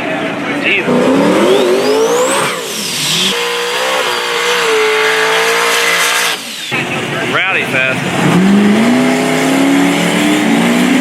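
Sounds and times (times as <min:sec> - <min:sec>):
drag-race car engine revving: 0:00.0 - 0:11.0.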